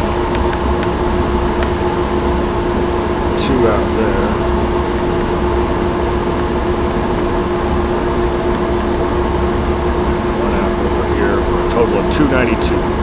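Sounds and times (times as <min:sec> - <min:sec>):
ventilation fans humming: 0:00.0 - 0:13.0.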